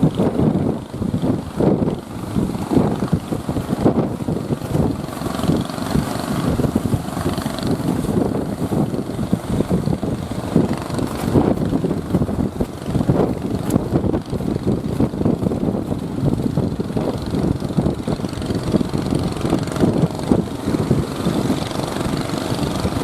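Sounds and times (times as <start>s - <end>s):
strong wind buffeting microphone: 0.0s - 23.0s.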